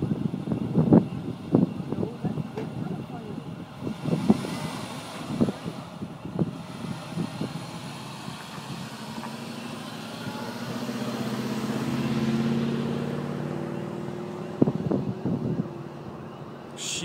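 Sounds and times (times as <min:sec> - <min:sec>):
car engine approaching: 0:00.0 - 0:17.0.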